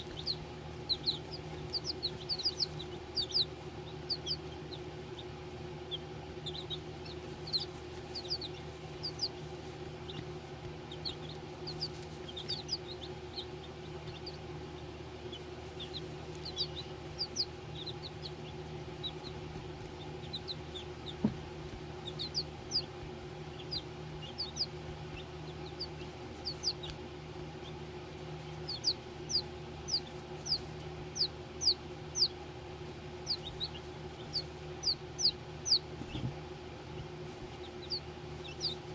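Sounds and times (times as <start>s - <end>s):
baby chicks peeping: 0.0s - 38.9s
steady low hum: 0.0s - 38.9s.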